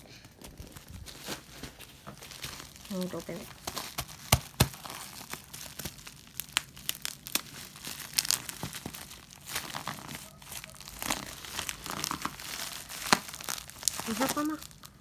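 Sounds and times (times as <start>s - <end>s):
plastic packaging crinkling: 0.1s - 15.0s.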